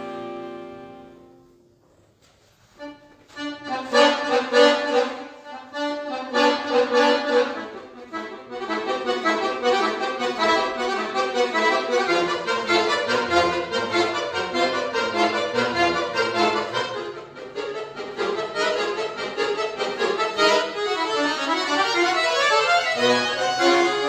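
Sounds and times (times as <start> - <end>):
accordion playing: 0.0 - 24.0.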